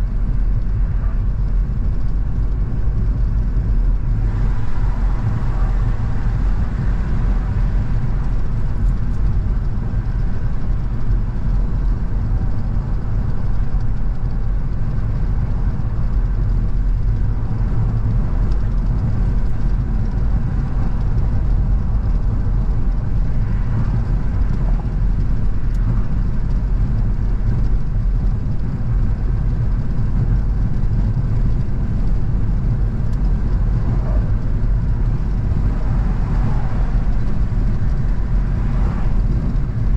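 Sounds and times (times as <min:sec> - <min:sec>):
car driving low rumble: 0:00.0 - 0:39.9.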